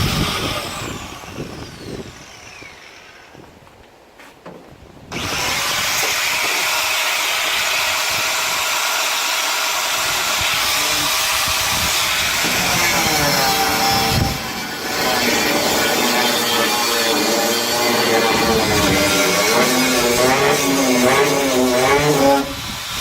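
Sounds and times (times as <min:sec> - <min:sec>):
power tool cutting sheet steel: 0:00.0 - 0:03.4, 0:05.1 - 0:23.0.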